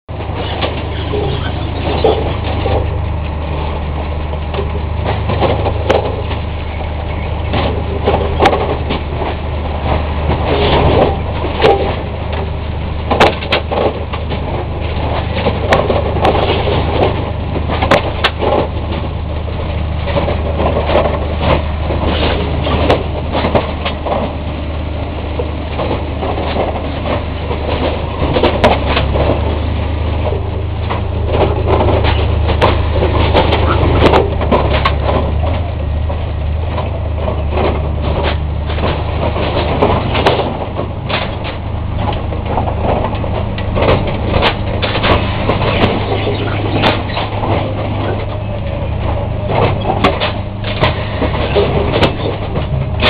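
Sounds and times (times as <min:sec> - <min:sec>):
machine engine running: 0:00.1 - 0:53.0.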